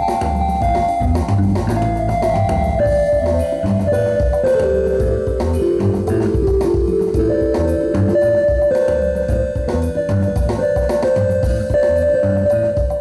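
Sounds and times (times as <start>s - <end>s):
drum-kit beat: 0.0s - 13.0s
melody of held notes: 0.0s - 13.0s.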